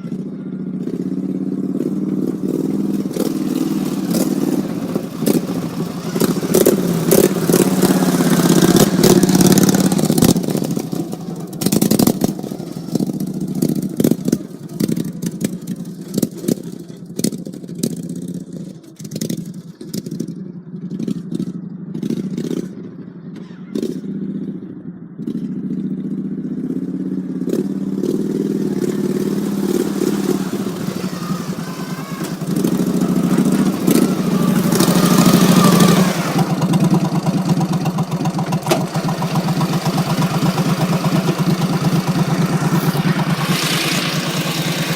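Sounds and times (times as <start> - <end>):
small engine running: 0.0 - 20.4, 27.5 - 44.9
rattling over rough ground: 0.0 - 26.0, 26.8 - 44.9.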